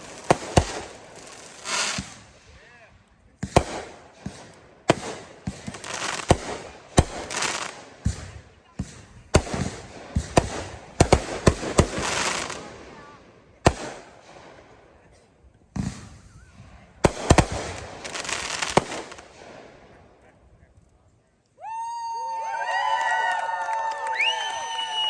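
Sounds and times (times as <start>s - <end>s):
fireworks bursting with sharp bangs: 0.0s - 21.3s
fireworks crackling: 0.0s - 21.4s.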